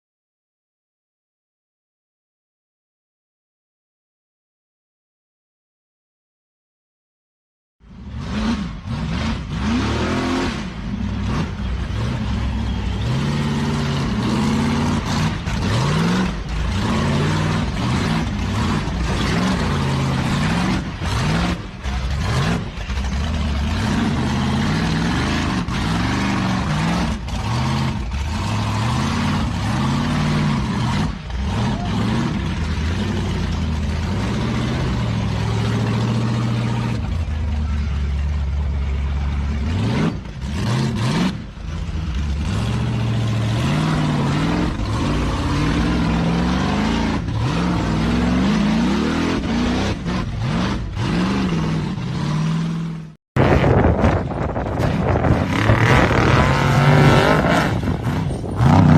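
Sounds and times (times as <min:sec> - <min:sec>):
off-road vehicle engines revving: 0:07.8 - 0:58.9.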